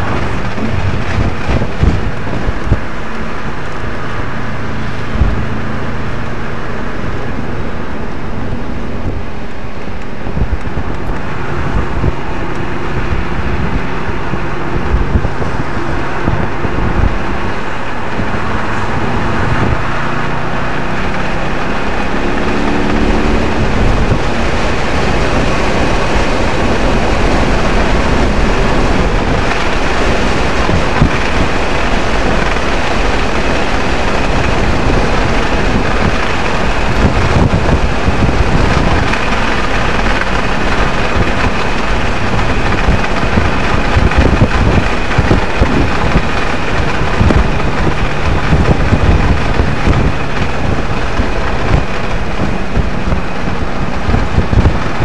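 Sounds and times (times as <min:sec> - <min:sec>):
car engine accelerating: 0:00.0 - 0:55.0
wind and tyre noise: 0:00.0 - 0:55.0.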